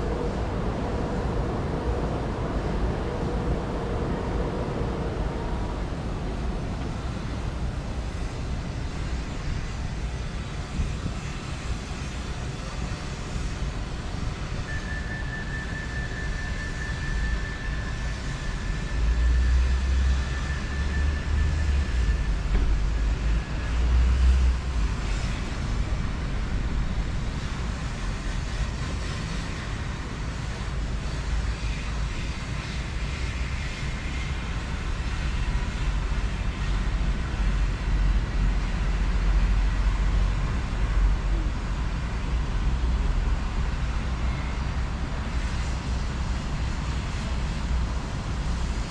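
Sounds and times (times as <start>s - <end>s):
steady high whine: 0.0s - 48.9s
train rumbling: 0.0s - 48.9s.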